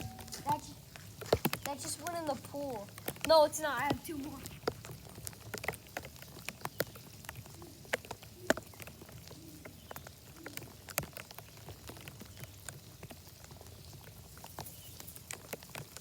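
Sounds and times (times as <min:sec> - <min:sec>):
raindrops tapping on plastic bag: 0:00.0 - 0:16.0.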